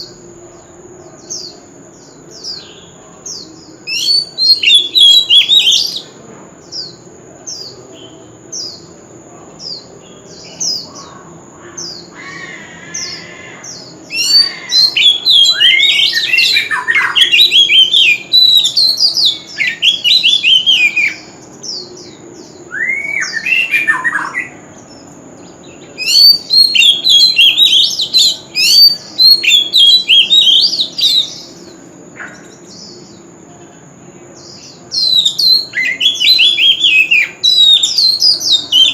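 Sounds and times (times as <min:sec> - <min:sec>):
bird singing whistled notes: 0:01.0 - 0:09.0, 0:11.8 - 0:33.3, 0:34.4 - 0:38.9.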